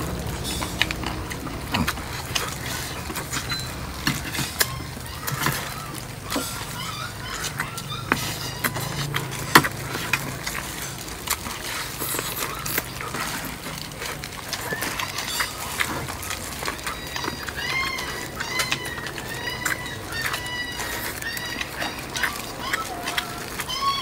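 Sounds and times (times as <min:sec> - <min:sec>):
spoons scraping plates: 0:00.0 - 0:24.0.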